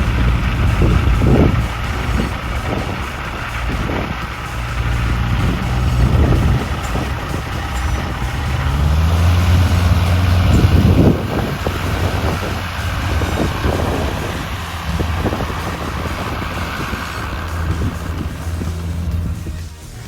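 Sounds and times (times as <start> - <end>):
light aircraft engine running: 0.0 - 20.0.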